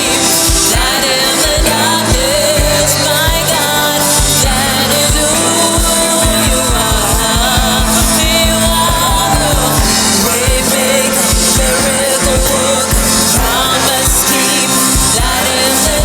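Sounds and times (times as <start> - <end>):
band playing: 0.0 - 16.0
bass: 0.0 - 16.0
drum beat: 0.0 - 16.0
person singing: 0.0 - 16.0.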